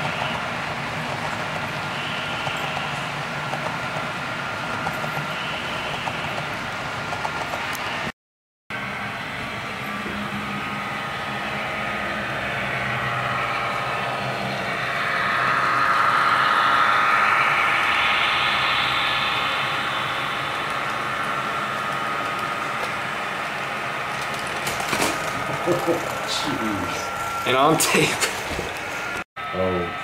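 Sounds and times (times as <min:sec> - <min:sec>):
model train running: 0:00.0 - 0:08.1, 0:08.7 - 0:29.9.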